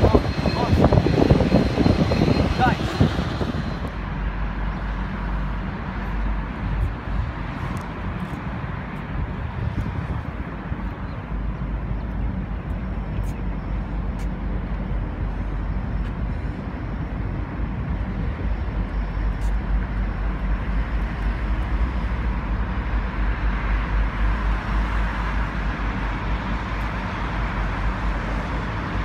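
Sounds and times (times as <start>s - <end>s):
locomotive engine rumble: 0.0s - 29.0s
rushing noise: 0.0s - 29.0s.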